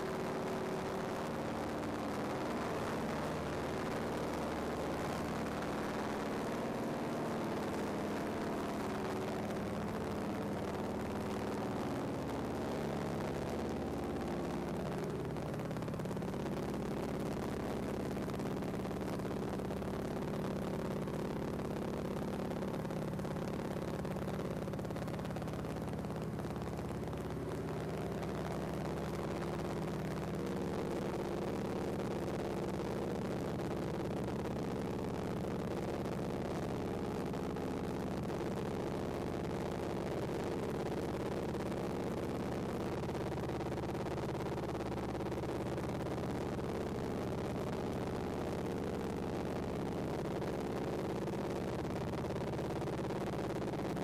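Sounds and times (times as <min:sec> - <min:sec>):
propeller engine running: 0:00.0 - 0:54.0.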